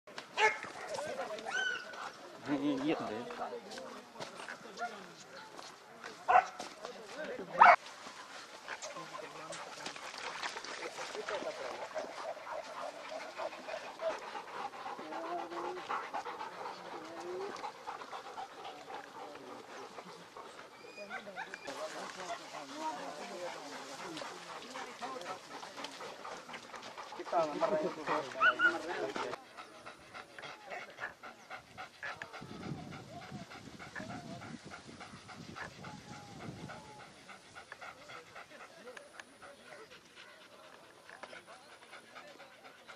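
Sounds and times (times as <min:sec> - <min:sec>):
dog panting: 0:00.4 - 0:42.9.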